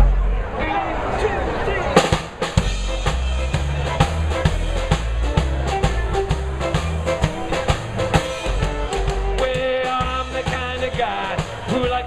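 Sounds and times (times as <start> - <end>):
rock band playing: 1.9 - 12.0
drum kit beat: 2.0 - 12.0.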